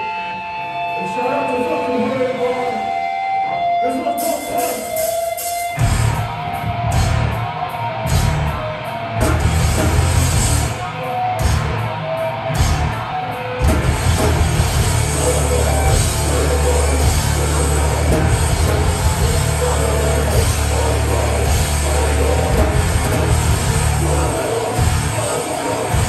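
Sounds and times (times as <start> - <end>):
metal band playing live: 0.0 - 26.0.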